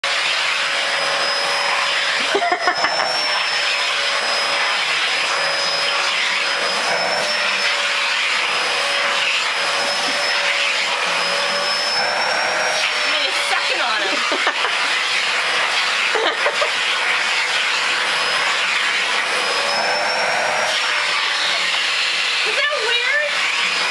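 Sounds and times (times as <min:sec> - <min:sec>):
vacuum cleaner whine: 0:00.0 - 0:23.9.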